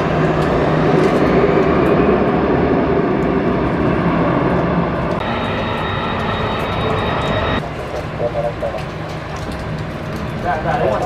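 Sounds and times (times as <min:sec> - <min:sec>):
jet engine high whine: 0:00.0 - 0:11.0
jet engines roaring: 0:00.0 - 0:11.0.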